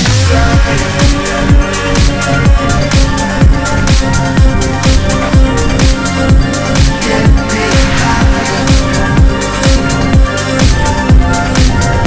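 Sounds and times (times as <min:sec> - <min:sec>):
kick drum beat: 0:00.0 - 0:12.0.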